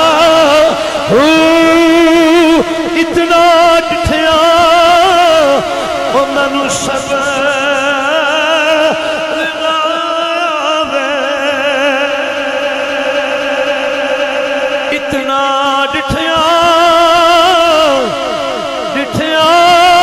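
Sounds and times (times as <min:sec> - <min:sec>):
man singing long notes: 0:00.0 - 0:20.0.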